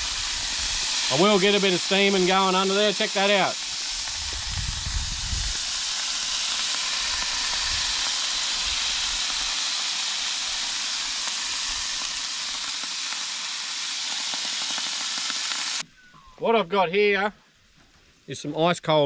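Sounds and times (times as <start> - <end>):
water hissing in hot skillet: 0.0 - 15.8.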